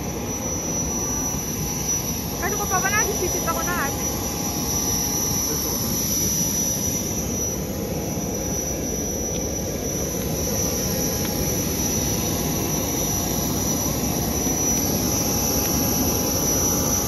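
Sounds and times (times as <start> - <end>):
jet turbine whine: 0.0 - 17.0.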